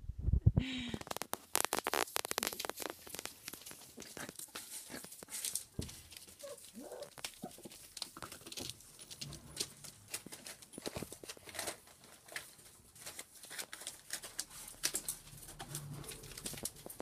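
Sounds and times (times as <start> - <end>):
puppy claws clicking and rustling: 1.0 - 17.0.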